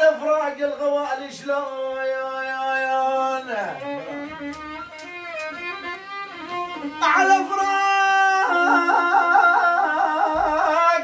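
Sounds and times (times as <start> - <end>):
violin playing folk melody: 1.7 - 10.8.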